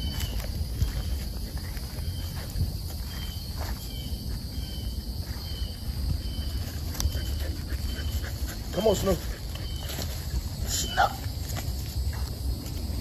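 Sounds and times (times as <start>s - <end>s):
constant low rumble: 0.0s - 13.0s
high insect drone: 0.0s - 13.0s.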